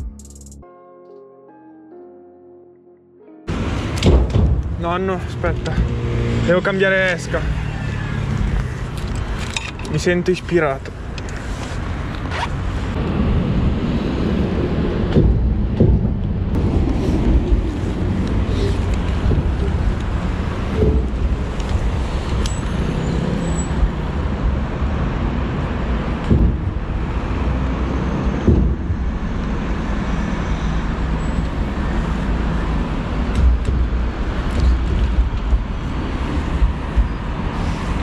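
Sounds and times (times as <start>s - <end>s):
road traffic rumble: 3.5s - 38.0s.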